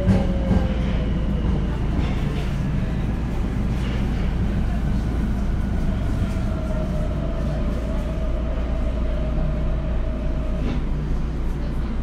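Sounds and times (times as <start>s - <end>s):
subway train humming: 0.0s - 12.0s.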